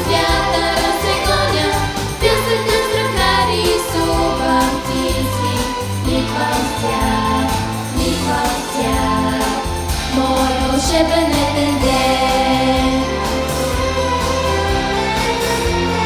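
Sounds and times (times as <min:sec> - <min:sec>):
instrumental accompaniment with bass: 0:00.0 - 0:16.0
vocal ensemble singing: 0:00.0 - 0:16.0.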